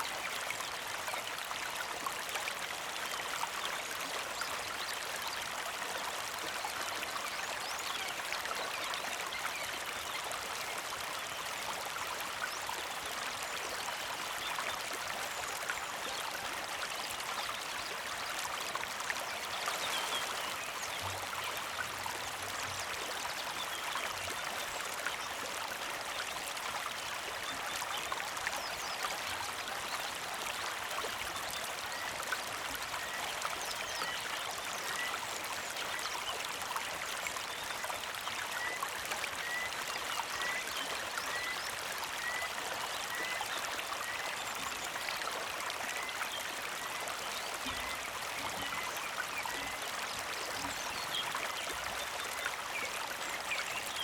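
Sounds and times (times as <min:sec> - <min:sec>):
creek flowing: 0:00.0 - 0:54.0.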